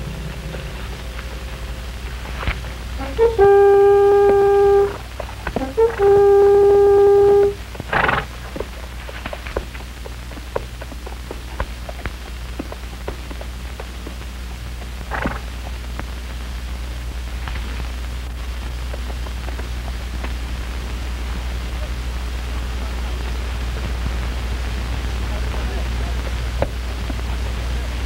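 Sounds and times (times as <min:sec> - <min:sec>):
film soundtrack hum and hiss: 0:00.0 - 0:28.0.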